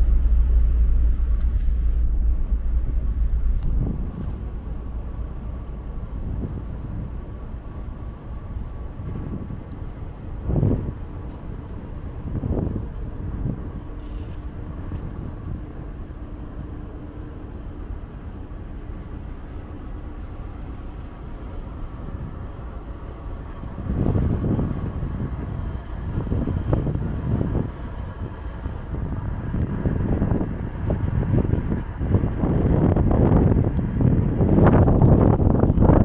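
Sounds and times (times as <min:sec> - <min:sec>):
wind buffeting microphone: 0:00.0 - 0:19.4, 0:20.2 - 0:36.0
faint hum: 0:00.0 - 0:36.0
steady low rumble: 0:00.0 - 0:36.0.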